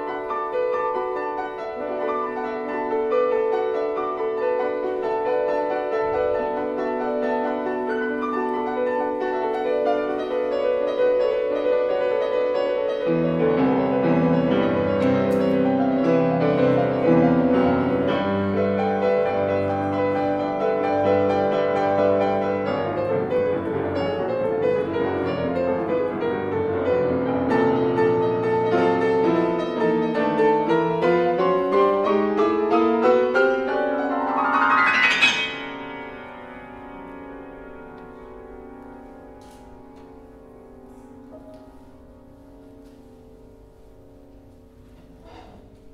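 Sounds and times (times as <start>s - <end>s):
solo grand piano: 0.0s - 45.9s.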